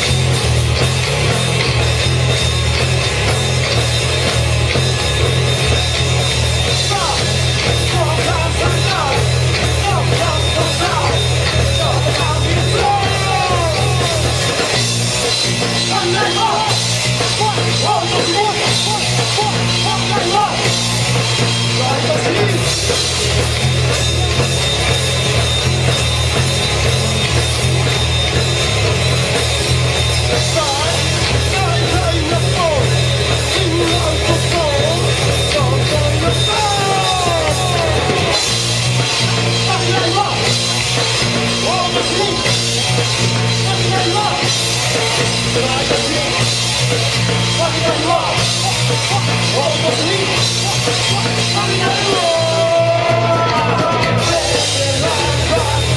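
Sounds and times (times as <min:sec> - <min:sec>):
bass line: 0:00.0 - 0:55.9
drum kit: 0:00.0 - 0:55.9
rock band playing live: 0:00.0 - 0:55.9.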